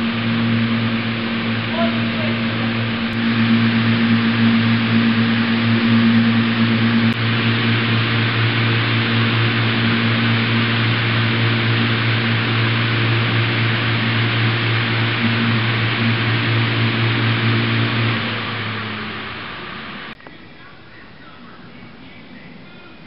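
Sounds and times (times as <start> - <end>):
machine drone: 0.0 - 23.0.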